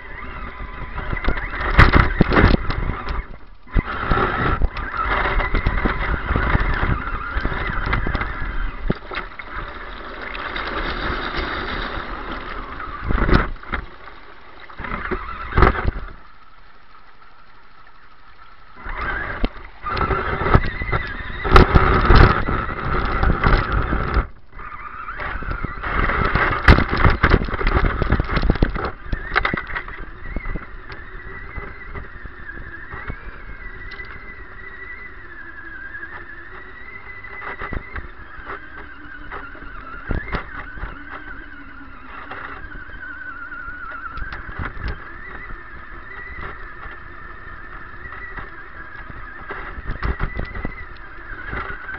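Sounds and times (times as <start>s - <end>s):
electric motor and gears whining: 0.0s - 51.9s
water splashing: 0.0s - 51.9s.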